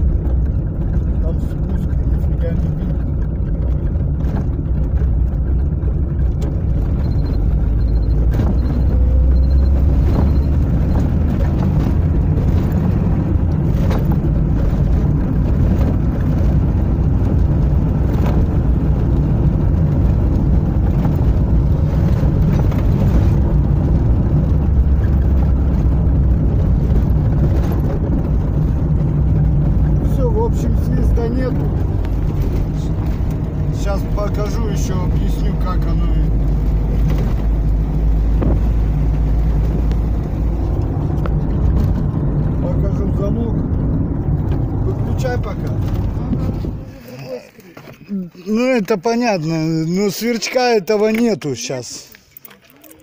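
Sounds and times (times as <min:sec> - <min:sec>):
road and engine rumble: 0:00.0 - 0:53.0.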